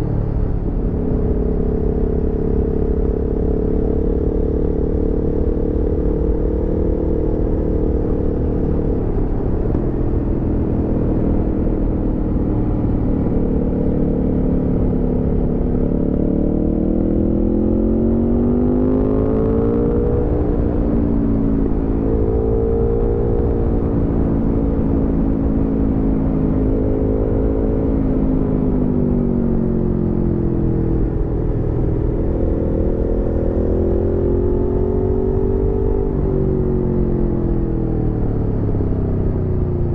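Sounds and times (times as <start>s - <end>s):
motorcycle engine revving: 0.0s - 39.5s.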